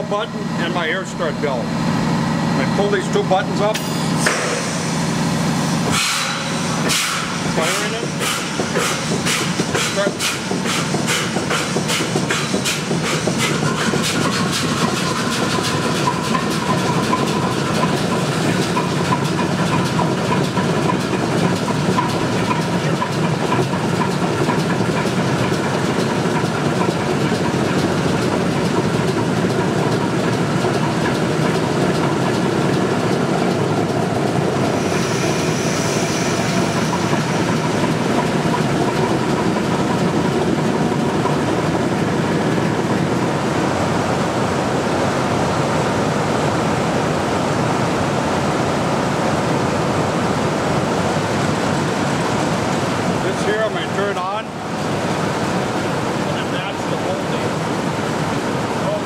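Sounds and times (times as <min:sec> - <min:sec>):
diesel generator engine running: 0:00.0 - 0:59.0
steady whine: 0:00.0 - 0:59.0.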